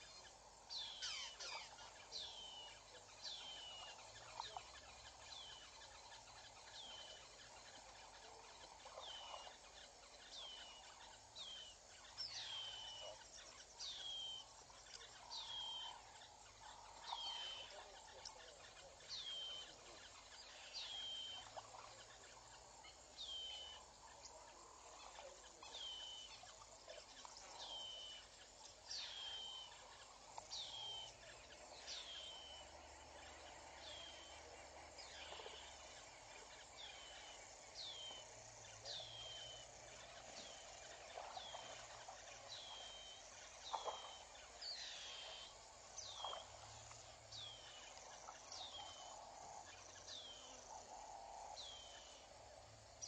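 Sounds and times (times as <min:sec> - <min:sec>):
faint bush ambience: 0:00.0 - 0:53.0.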